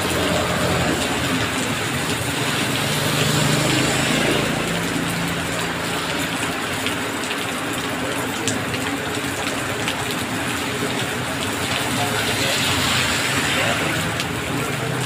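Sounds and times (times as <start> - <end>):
heavy rain on wet road: 0.0 - 15.0.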